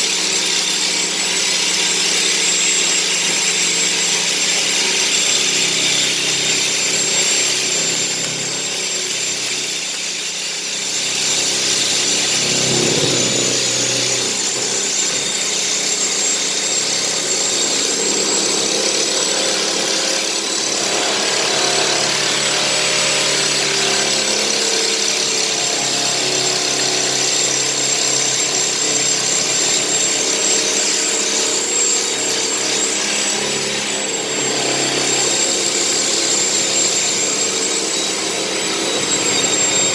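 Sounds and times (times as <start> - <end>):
power tool grinding metal: 0.0 - 39.9.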